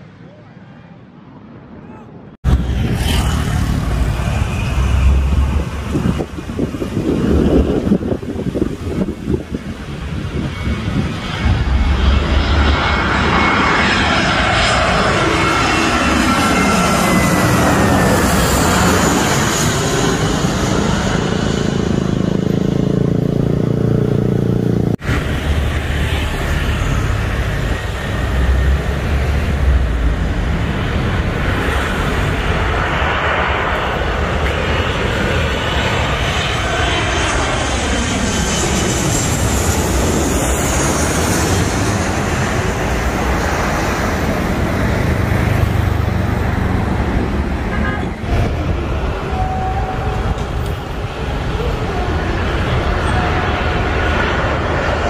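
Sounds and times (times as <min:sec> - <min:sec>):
jet airliner passing overhead: 0:00.0 - 0:55.0.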